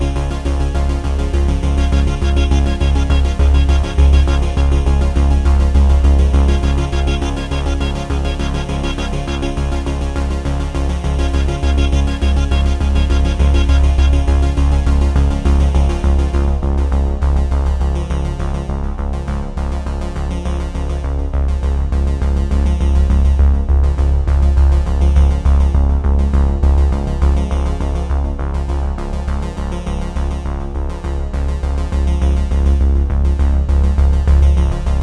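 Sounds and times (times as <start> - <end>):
synthesizer music with heavy bass: 0.0 - 30.4.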